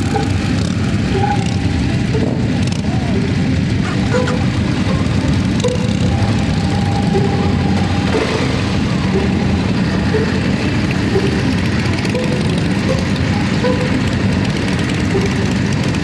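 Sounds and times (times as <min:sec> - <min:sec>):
group of motorcycle engines rumbling: 0:00.0 - 0:16.0
nearby motorcycle engine: 0:00.0 - 0:16.0.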